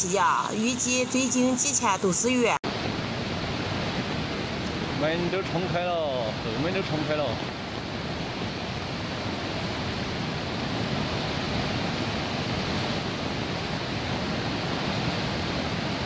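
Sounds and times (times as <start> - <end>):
river torrent roaring: 0.0 - 16.0.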